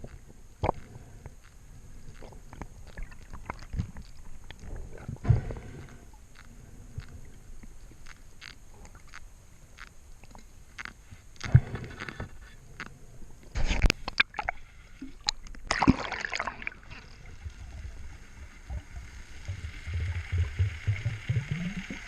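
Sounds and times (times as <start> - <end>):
sharp underwater clicks and crackles: 0.0 - 22.0.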